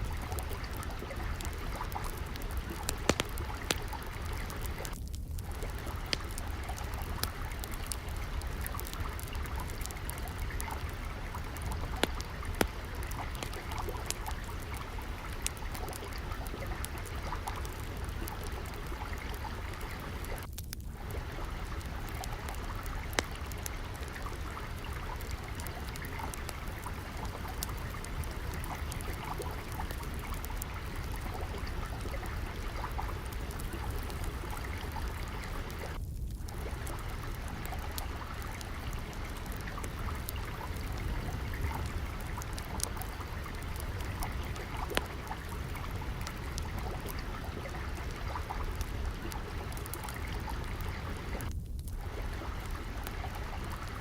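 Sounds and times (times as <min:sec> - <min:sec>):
trickling water: 0:00.0 - 0:54.0
wood fire crackling and popping: 0:00.0 - 0:54.0.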